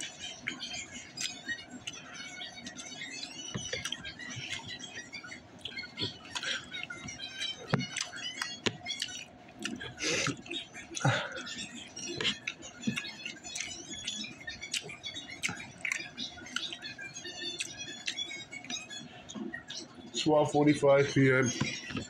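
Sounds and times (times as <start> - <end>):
chewing and lip-smacking: 0.0 - 20.3, 21.5 - 22.0.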